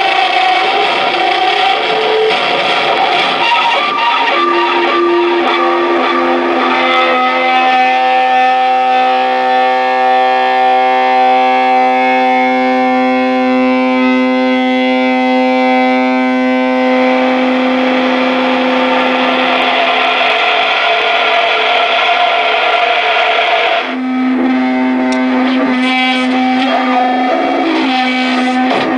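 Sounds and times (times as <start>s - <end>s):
harsh electronic noise: 0.0s - 28.9s
pitched electronic drone: 0.0s - 28.9s.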